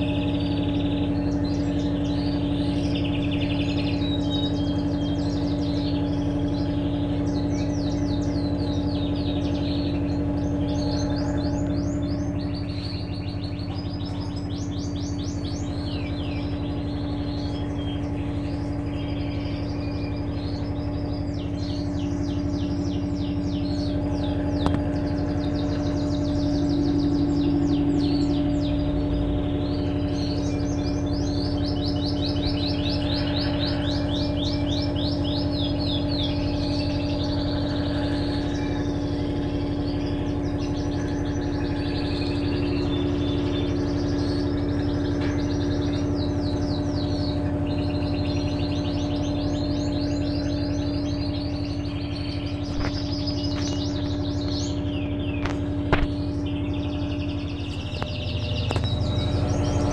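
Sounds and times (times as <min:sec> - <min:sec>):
small birds chirping: 0:00.0 - 0:59.9
steady low hum: 0:00.0 - 0:59.9.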